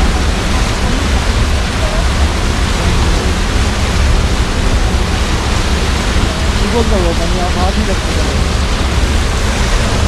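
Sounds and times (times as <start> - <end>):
deep rumble: 0.0 - 10.0
hot spring steam hissing: 0.0 - 10.0
water running between rocks: 0.0 - 10.0.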